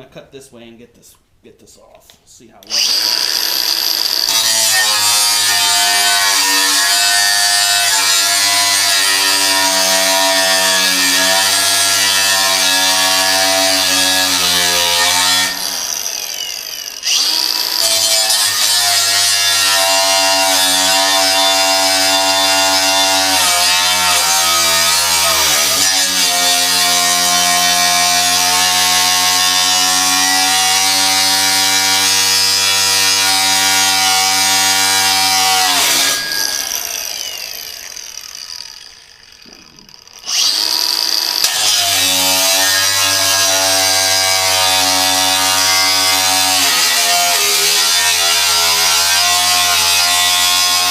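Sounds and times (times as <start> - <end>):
angle grinder cutting metal: 2.6 - 50.9.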